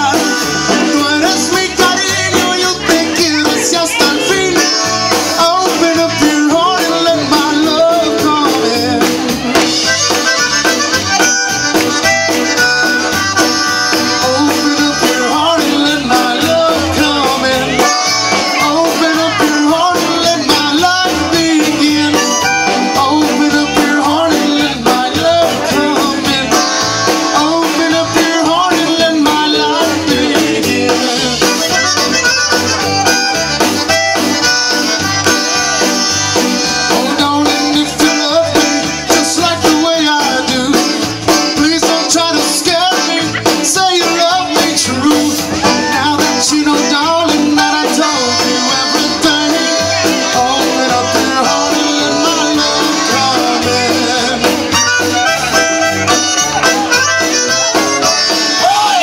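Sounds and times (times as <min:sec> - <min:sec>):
button accordion melody: 0:00.0 - 0:59.0
electric guitar: 0:00.0 - 0:59.0
steady drum beat: 0:00.0 - 0:59.0.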